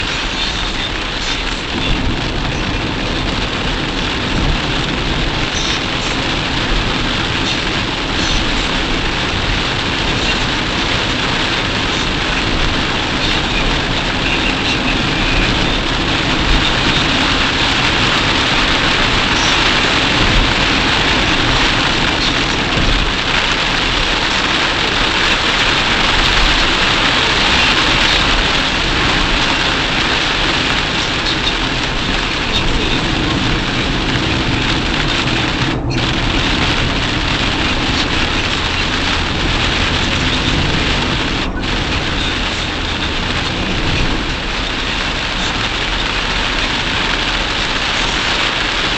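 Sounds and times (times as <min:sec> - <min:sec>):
heavy rain drumming on car: 0:00.0 - 0:48.9
tyre spray and road noise: 0:00.0 - 0:48.9.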